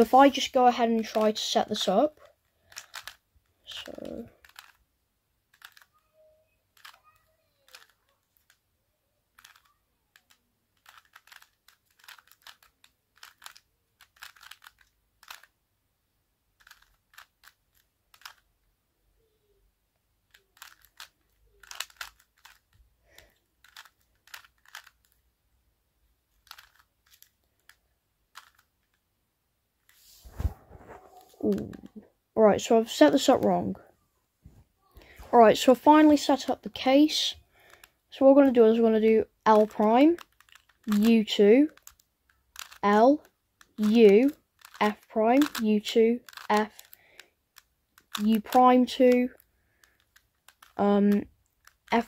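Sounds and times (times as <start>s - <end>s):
puzzle cube clicking: 0.0s - 4.8s, 5.5s - 6.0s, 6.7s - 8.6s, 9.3s - 15.6s, 16.6s - 18.5s, 20.2s - 25.2s, 26.3s - 29.0s, 31.2s - 32.0s, 32.6s - 33.7s, 35.0s - 52.0s.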